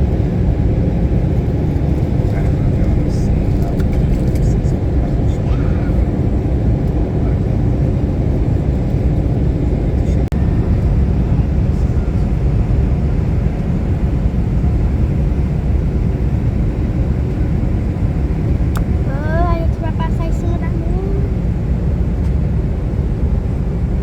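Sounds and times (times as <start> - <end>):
airplane cabin rumble: 0.0 - 24.0.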